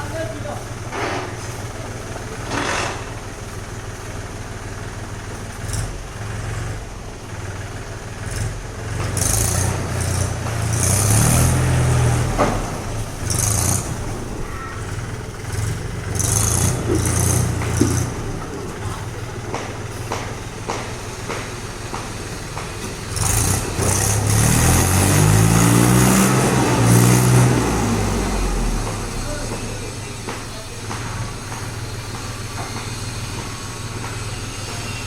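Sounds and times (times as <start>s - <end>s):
heavy vehicle engine running: 0.0s - 35.0s.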